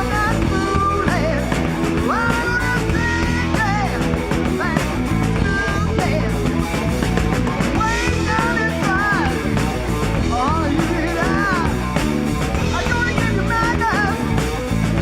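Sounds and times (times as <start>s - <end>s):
electric guitar lead line bending: 0.0s - 15.0s
rock band playing: 0.0s - 15.0s.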